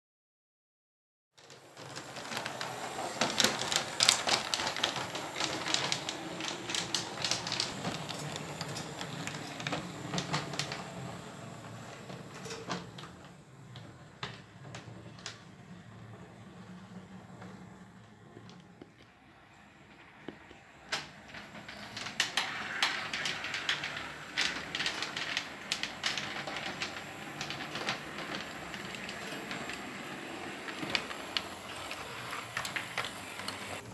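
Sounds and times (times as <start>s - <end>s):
model tram wheels clicking: 1.4s - 17.6s, 19.9s - 33.9s.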